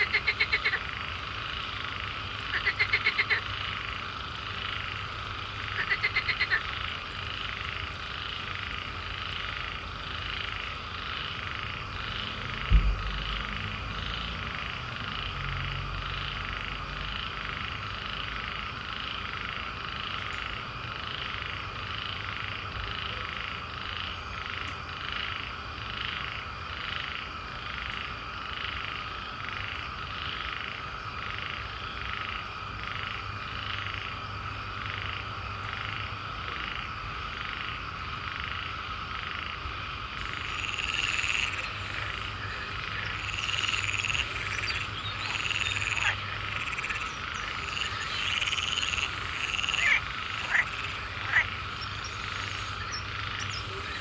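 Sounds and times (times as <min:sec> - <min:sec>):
frogs croaking: 0:00.0 - 0:54.0
loud high frog calls: 0:00.0 - 0:54.0
sharp loud frog calls: 0:00.0 - 0:54.0.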